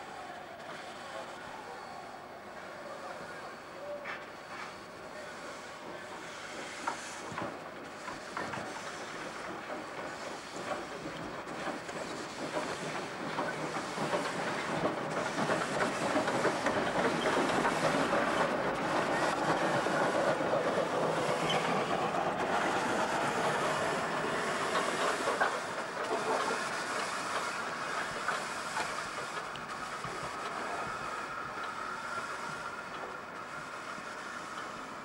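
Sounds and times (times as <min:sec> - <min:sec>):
steam hissing: 0:00.0 - 0:35.0
train wheels rattling over rails: 0:05.8 - 0:35.0.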